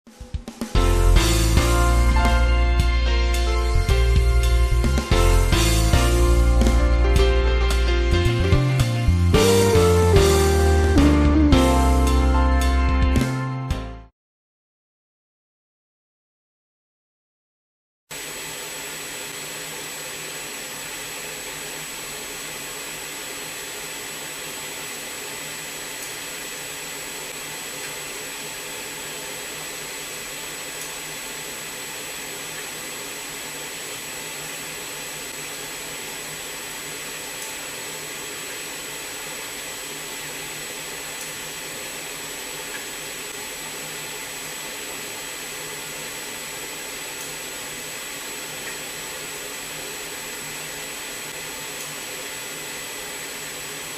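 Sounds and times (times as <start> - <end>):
machine hiss with high whine: 0.2 - 10.6, 18.1 - 53.9.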